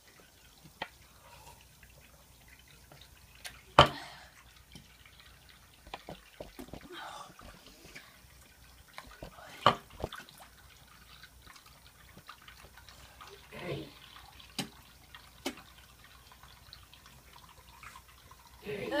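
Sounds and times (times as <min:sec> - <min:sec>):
liquid dripping into sink: 0:00.0 - 0:18.6.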